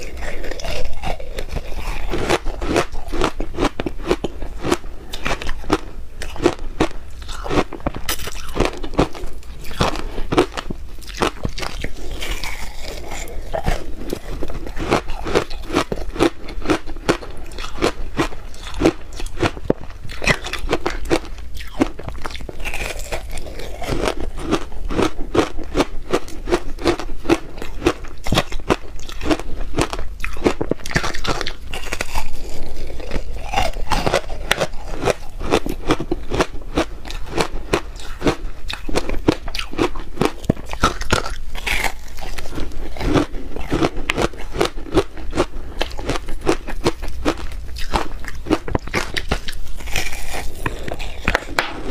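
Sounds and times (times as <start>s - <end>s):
crunching and chewing ice: 0.0s - 51.9s.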